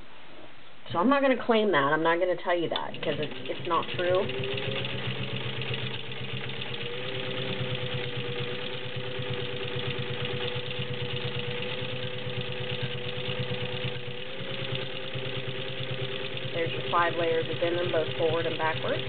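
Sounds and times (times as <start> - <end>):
sewing machine stitching: 2.7 - 19.0.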